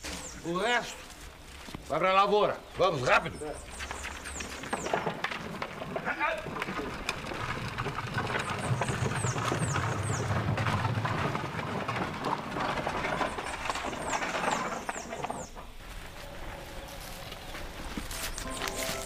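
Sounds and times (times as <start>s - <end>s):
wooden wagon rolling and rattling: 0.0s - 19.0s.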